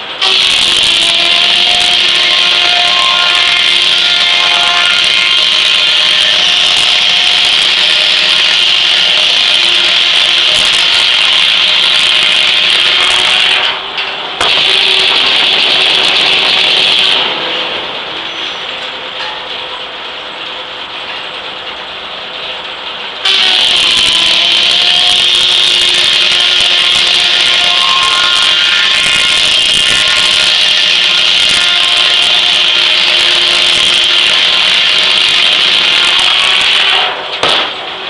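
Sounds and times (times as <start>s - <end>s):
circular saw blade cutting log: 0.0s - 13.8s, 14.4s - 17.4s, 23.2s - 37.2s
carriage machinery running: 0.0s - 38.0s.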